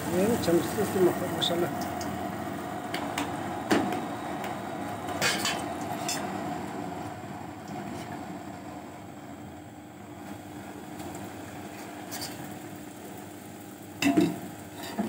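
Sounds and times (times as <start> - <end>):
bread sizzling in hot oil: 0.0 - 8.5, 10.0 - 15.0.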